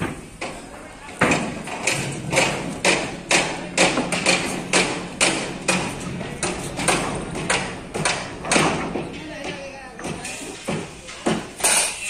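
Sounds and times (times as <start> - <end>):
hammering blows: 0.0 - 12.0.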